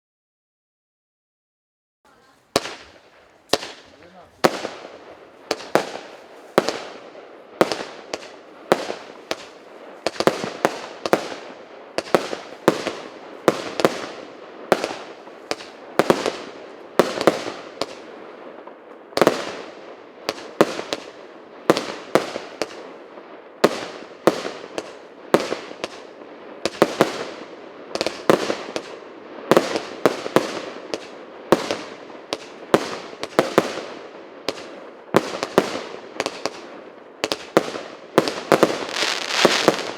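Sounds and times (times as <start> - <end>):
fireworks bangs with crackling: 2.1 - 39.9.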